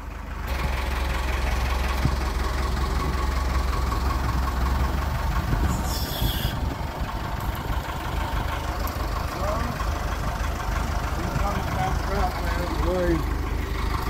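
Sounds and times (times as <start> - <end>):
forklift engine idling: 0.0 - 14.0.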